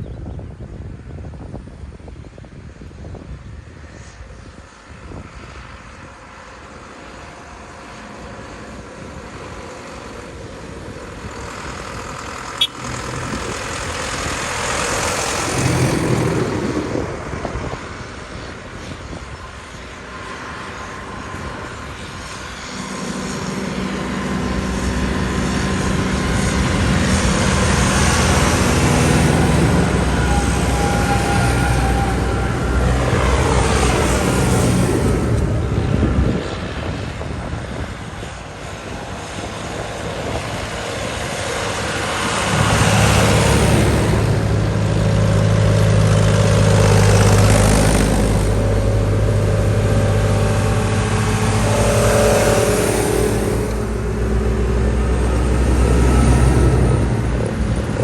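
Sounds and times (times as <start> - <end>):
tractor engines driving past: 0.5 - 58.0.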